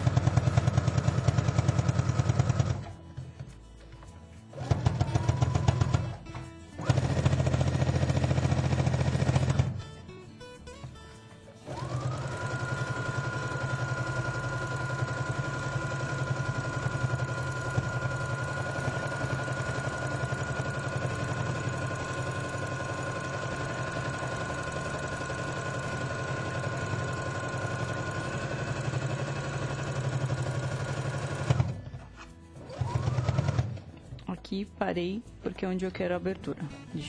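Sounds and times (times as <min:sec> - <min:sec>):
sewing machine running: 0:00.0 - 0:03.0, 0:04.5 - 0:09.8, 0:11.6 - 0:34.0.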